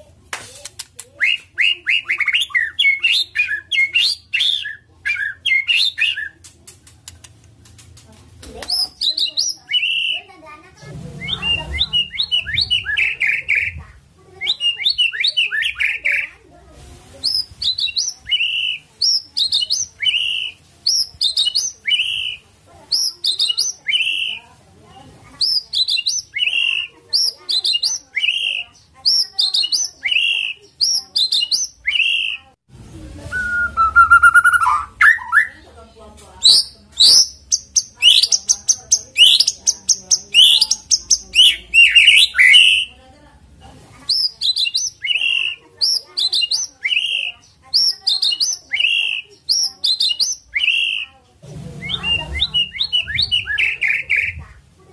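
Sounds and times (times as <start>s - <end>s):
bird singing high phrases: 1.2s - 6.4s, 8.7s - 10.4s, 11.2s - 16.4s, 17.2s - 24.5s, 25.4s - 32.5s, 33.4s - 35.6s, 36.4s - 43.0s, 44.1s - 51.2s, 51.8s - 54.5s.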